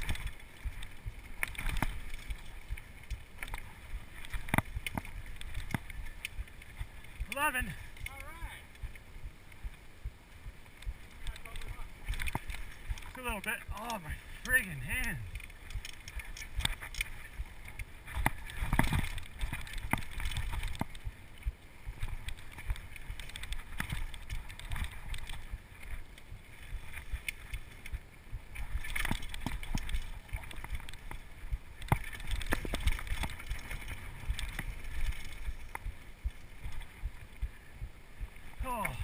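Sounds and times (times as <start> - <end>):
mountain bike rattling: 0.0 - 9.1, 10.7 - 37.3
wind rumble on microphone: 0.0 - 13.2, 15.2 - 39.0.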